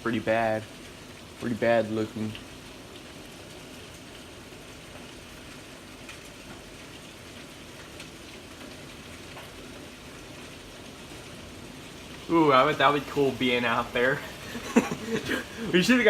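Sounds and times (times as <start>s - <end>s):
rain falling: 0.0s - 16.0s
raindrops ticking: 0.0s - 16.0s.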